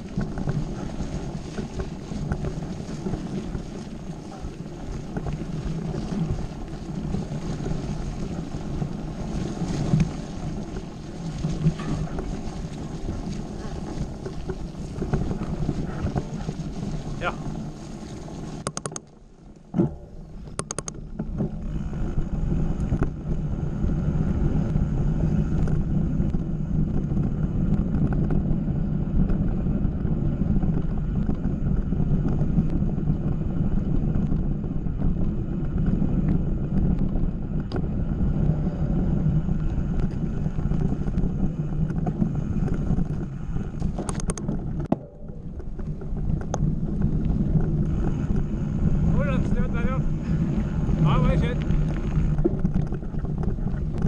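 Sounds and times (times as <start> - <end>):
wind buffeting microphone: 0.0 - 18.7, 19.9 - 54.0
bike tyres rumbling on gravel: 0.0 - 54.0.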